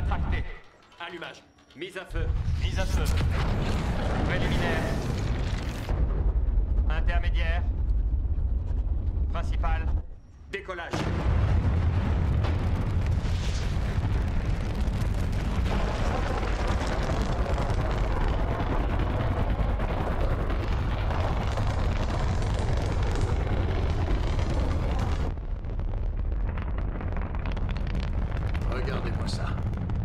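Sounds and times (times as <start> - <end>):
rocket engines rumbling: 0.0 - 30.0.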